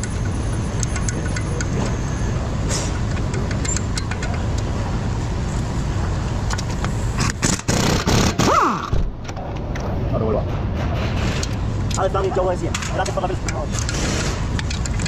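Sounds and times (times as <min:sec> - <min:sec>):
workshop background noise: 0:00.0 - 0:15.0.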